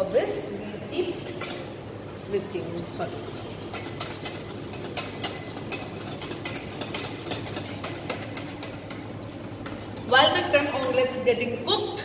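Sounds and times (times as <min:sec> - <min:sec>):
steady low hum: 0:00.0 - 0:12.0
whisk clinking against metal bowl: 0:01.2 - 0:12.0.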